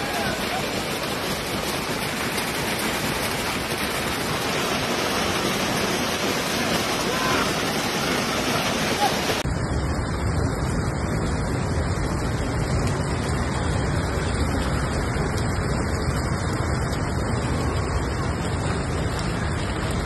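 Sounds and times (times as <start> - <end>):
hail and heavy rain falling: 0.0 - 20.0
wind: 0.0 - 20.0.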